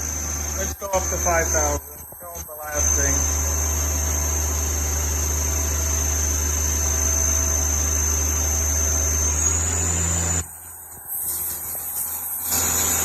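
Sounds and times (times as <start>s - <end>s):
lathe spindle whine: 0.0s - 13.0s.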